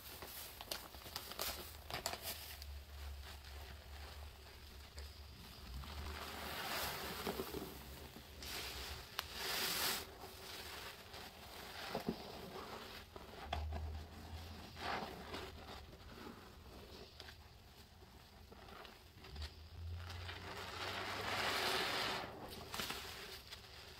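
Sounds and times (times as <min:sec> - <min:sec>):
soapy sponge squeezed and squishing: 0:00.0 - 0:19.4, 0:20.0 - 0:23.9.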